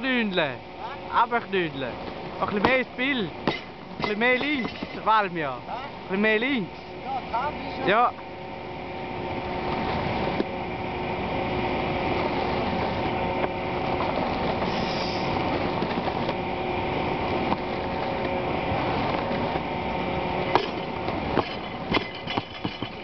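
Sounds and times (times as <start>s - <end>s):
mechanical drone: 0.0s - 23.0s.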